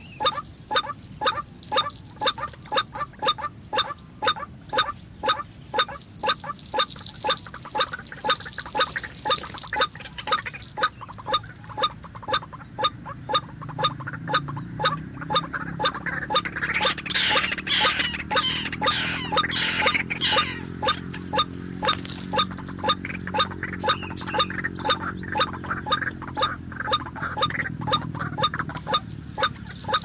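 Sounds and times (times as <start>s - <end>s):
bird croaking calls: 0.0s - 30.0s.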